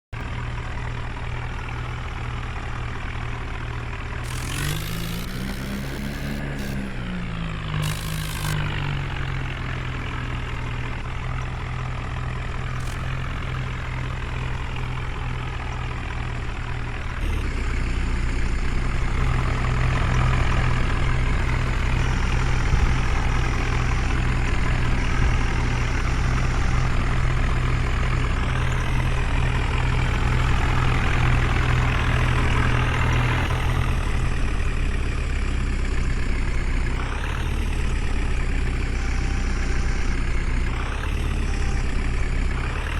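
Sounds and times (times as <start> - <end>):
heavy diesel engine running: 0.2 - 42.9.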